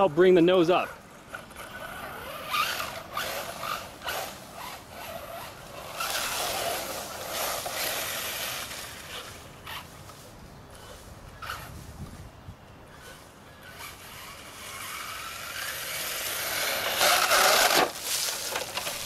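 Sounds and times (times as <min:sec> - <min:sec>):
tyres churning dirt: 0:00.0 - 0:19.0
rc buggy motor bursts: 0:00.7 - 0:10.1, 0:10.7 - 0:12.2, 0:12.9 - 0:19.0.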